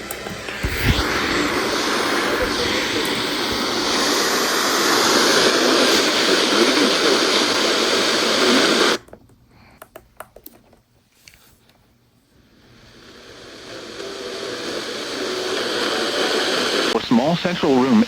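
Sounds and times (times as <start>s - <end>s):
radio static hiss: 0.0s - 9.0s, 12.5s - 18.0s.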